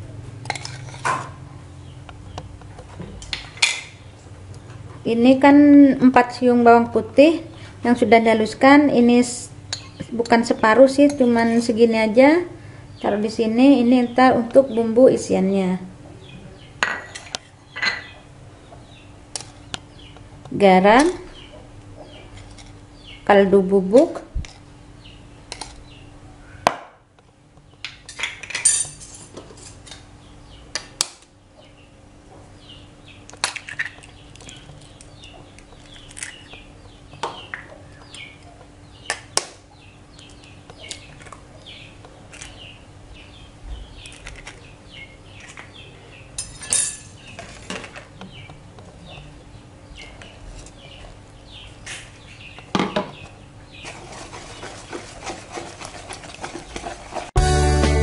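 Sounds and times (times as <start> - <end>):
faint steady hum: 0.0 - 57.2.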